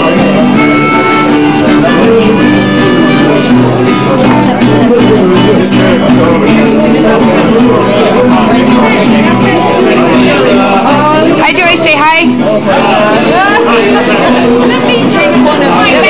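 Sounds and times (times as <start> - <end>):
folk music on acoustic guitar: 0.0 - 16.0.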